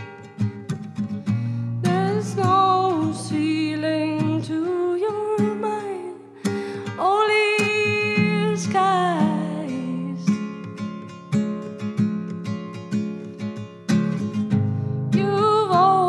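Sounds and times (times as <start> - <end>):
guitar accompaniment: 0.0 - 16.0.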